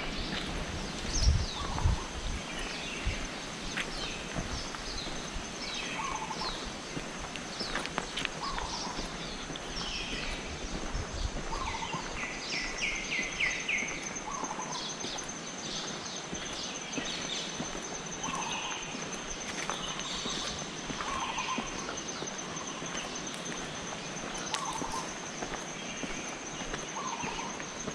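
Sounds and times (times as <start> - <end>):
forest birds chirping: 0.0 - 27.9
high insect drone: 0.0 - 27.9.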